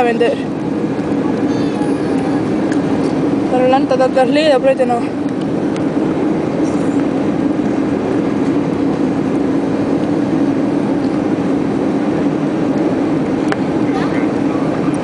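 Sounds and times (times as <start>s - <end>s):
airflow rush in plane cabin: 0.0s - 15.0s
constant low drone: 0.0s - 15.0s
jet engine noise: 0.0s - 15.0s.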